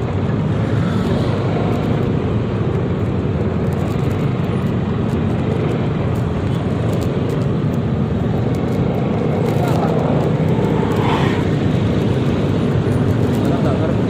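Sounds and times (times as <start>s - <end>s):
scooter engine and road noise: 0.0s - 14.0s.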